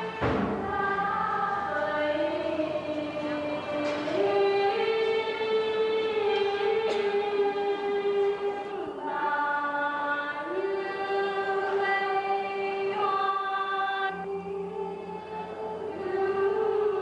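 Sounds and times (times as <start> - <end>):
choir singing a slow hymn: 0.0 - 17.0.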